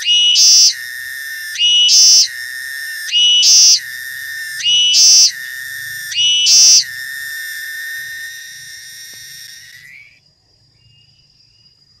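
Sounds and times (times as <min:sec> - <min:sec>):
cicada buzzing: 0:00.0 - 0:10.2
cicada whistling tone: 0:00.0 - 0:12.0.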